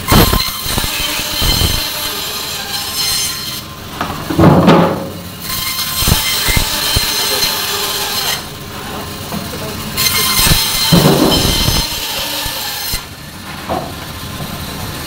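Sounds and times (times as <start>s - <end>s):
band saw cutting frozen fish: 0.0s - 4.2s, 4.9s - 15.0s
loud scrape: 0.0s - 9.1s, 10.0s - 13.1s.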